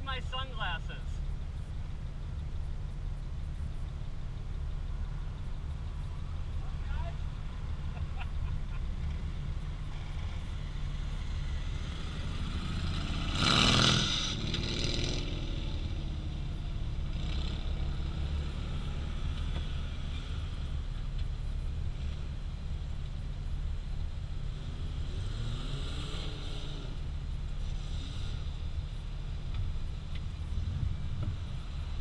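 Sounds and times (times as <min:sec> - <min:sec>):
vehicle engine idling: 0:00.0 - 0:13.3, 0:14.1 - 0:25.0, 0:26.3 - 0:32.0.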